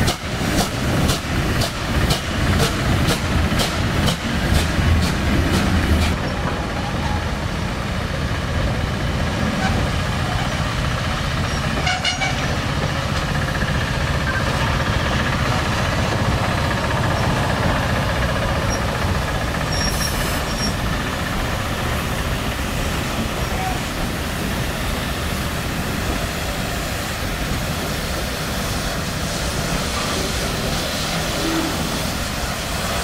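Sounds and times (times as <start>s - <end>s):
train rumbling past on rails: 0.0s - 33.0s.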